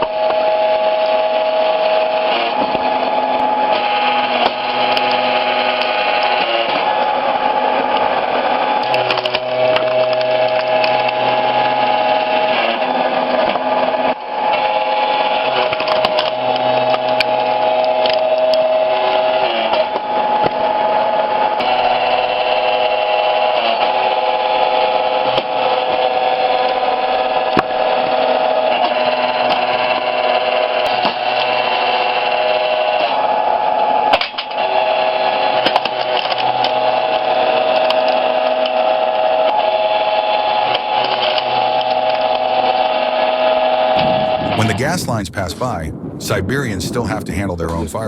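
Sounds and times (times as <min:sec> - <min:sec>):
machine motor whining: 0:00.0 - 0:44.8.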